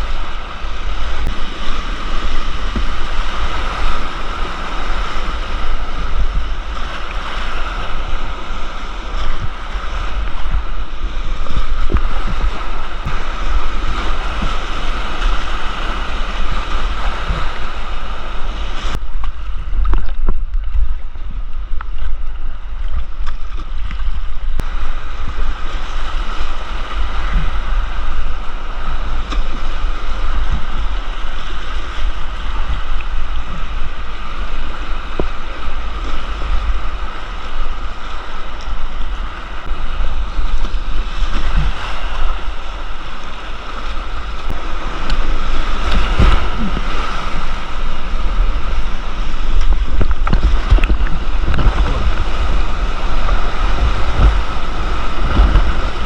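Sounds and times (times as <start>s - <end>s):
whitewater rushing: 0.0s - 56.0s
wind buffeting microphone: 0.0s - 56.0s.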